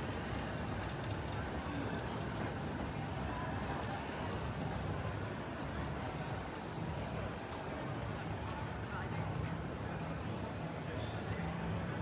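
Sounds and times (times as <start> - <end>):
city ambience rumble and hiss: 0.0 - 12.0.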